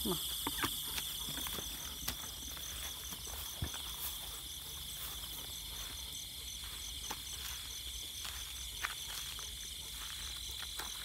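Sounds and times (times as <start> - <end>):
insects buzzing: 0.0 - 11.0
pulsing insect chirp: 0.0 - 11.0.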